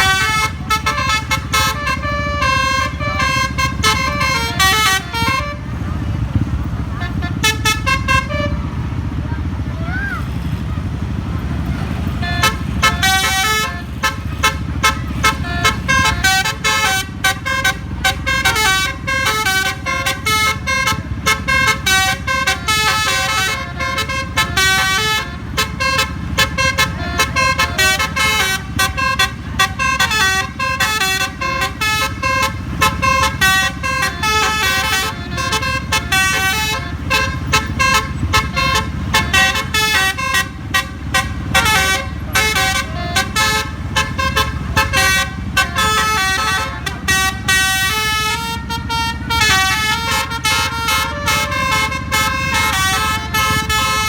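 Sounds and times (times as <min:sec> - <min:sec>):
musical air horn melody: 0:00.0 - 0:05.8, 0:07.0 - 0:08.9, 0:11.9 - 0:54.0.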